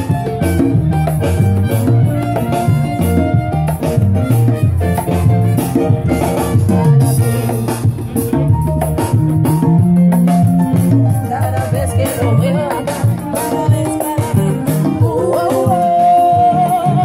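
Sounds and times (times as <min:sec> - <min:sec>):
live salsa band: 0:00.0 - 0:17.0
walking electric bass line: 0:00.0 - 0:17.0.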